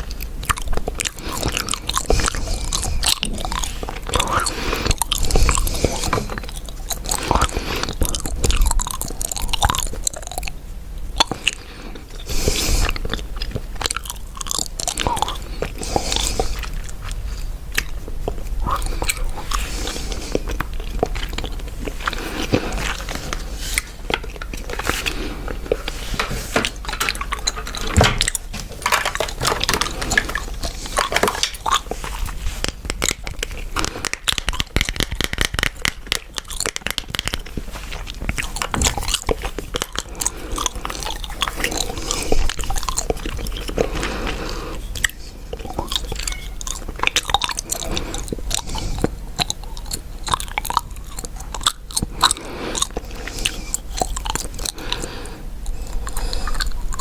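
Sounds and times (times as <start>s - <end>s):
gum chewing mouth clicks: 0.0s - 57.0s.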